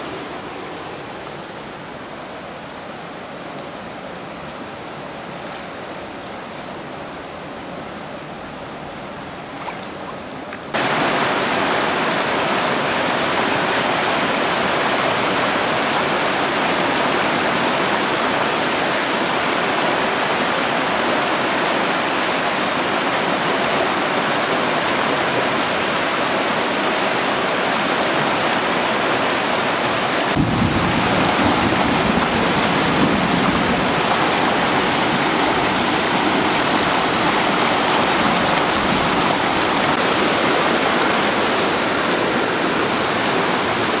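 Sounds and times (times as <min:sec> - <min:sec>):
floodwater rushing: 0:00.0 - 0:44.0.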